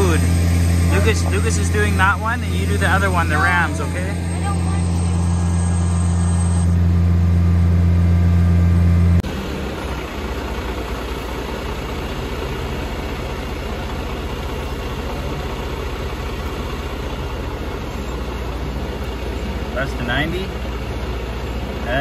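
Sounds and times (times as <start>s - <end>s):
vacuum truck engine: 0.0s - 22.0s.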